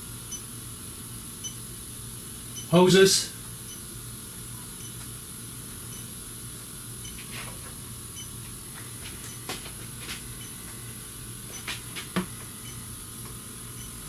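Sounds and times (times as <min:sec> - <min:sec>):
leak detector humming and hissing: 0:00.0 - 0:14.0.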